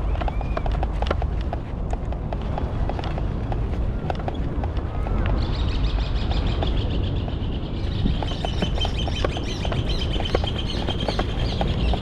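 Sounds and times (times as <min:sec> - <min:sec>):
irregular ticks: 0:00.0 - 0:12.0
wind rushing over microphone: 0:00.0 - 0:12.0.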